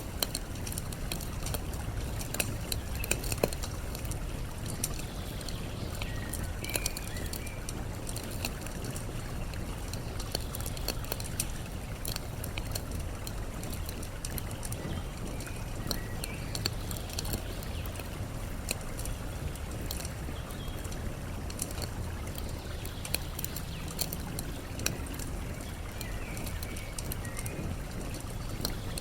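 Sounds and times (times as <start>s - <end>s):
campfire crackling and popping: 0.0s - 29.0s
flowing water: 0.0s - 29.0s.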